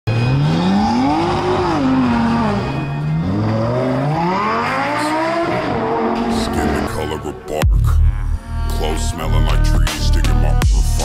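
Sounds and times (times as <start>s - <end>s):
car engine revving: 0.1s - 11.0s
music: 0.1s - 11.0s.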